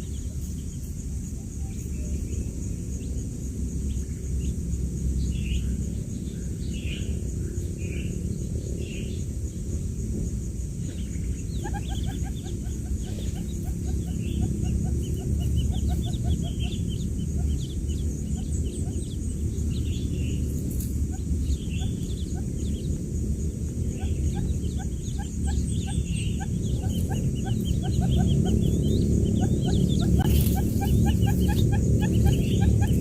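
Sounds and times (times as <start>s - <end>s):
chicks peeping: 0.0s - 7.3s, 10.8s - 33.0s
steady low hum: 0.0s - 33.0s.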